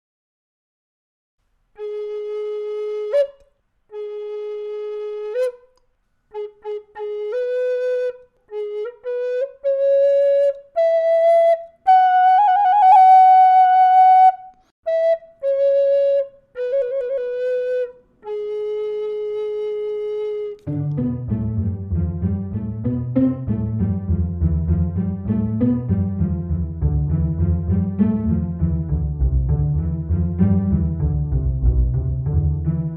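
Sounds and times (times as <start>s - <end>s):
solo flute melody: 1.8s - 32.9s.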